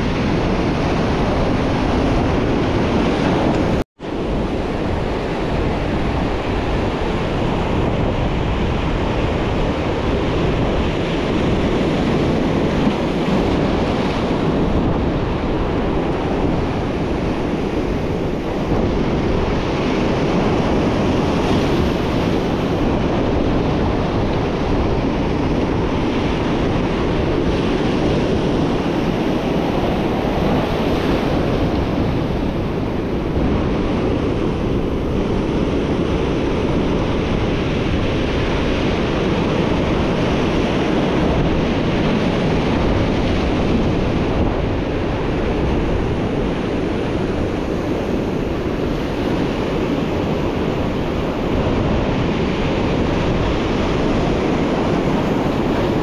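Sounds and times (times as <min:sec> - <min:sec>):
surf breaking on rocks: 0:00.0 - 0:56.0
wind on microphone: 0:00.0 - 0:56.0.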